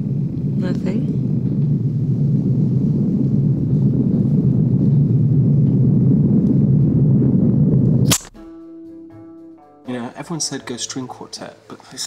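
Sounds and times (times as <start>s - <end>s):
low rumbling drone: 0.0s - 11.2s.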